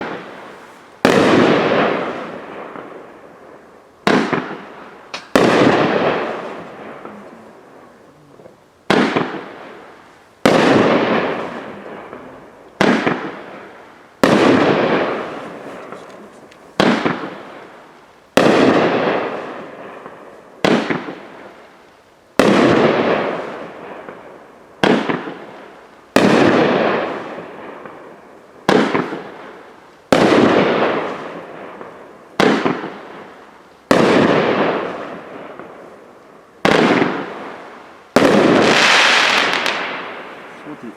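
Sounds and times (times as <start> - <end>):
firework shots banging: 0.0 - 3.0, 4.0 - 7.4, 8.8 - 21.4, 22.4 - 24.2, 24.8 - 28.0, 28.6 - 35.8, 36.6 - 40.9.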